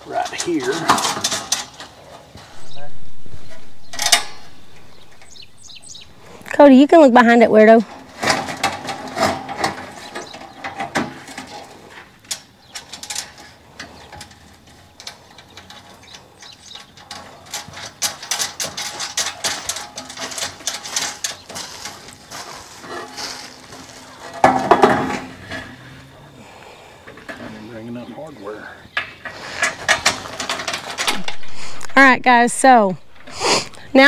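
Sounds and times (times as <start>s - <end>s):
metal panels clinking and rattling: 0.0s - 26.0s, 29.2s - 33.3s
metal clatter: 0.1s - 6.6s, 7.7s - 25.9s, 29.2s - 33.3s.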